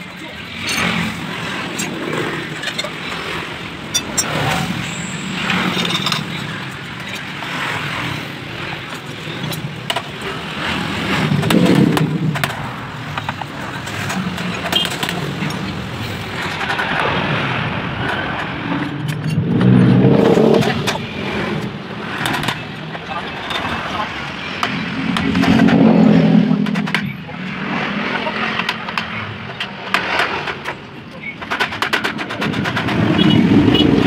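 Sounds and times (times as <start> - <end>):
passing vehicle traffic: 0.0 - 34.0.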